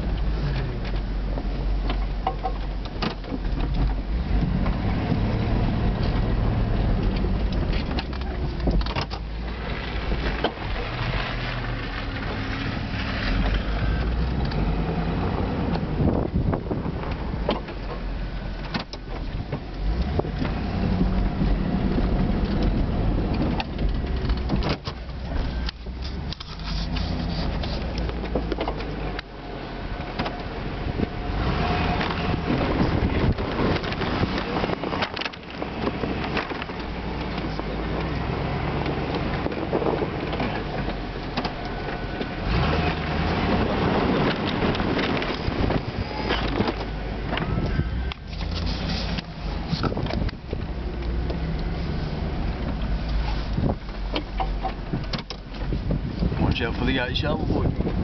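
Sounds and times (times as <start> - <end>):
truck engine plowing snow: 0.0 - 58.0.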